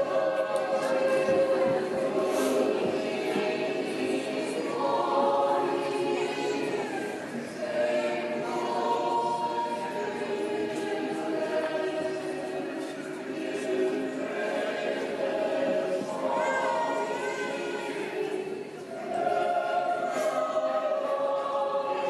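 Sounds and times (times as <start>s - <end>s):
choir singing long held notes: 0.0s - 22.0s.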